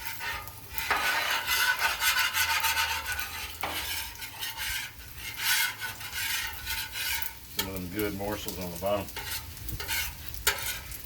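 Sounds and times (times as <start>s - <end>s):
metal spatulas scraping griddle: 0.0s - 11.0s
rice sizzling: 0.0s - 11.0s.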